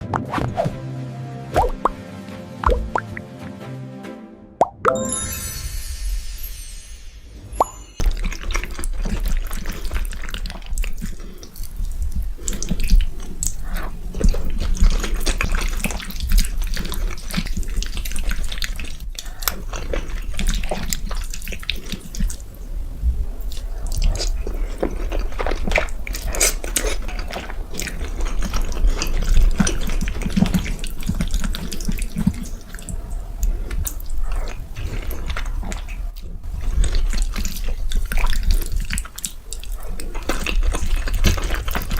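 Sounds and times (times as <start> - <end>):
wet chewing and slurping: 8.0 - 41.9.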